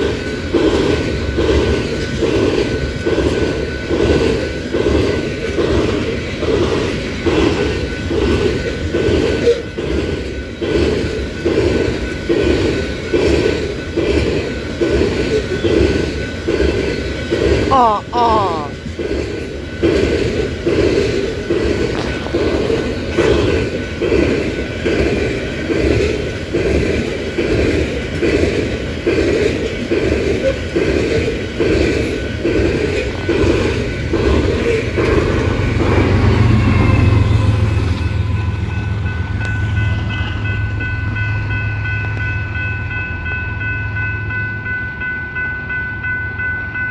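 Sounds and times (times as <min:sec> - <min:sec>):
train wheels clacking over rail joints: 0:00.0 - 0:38.8
low train rumble: 0:00.0 - 0:46.9.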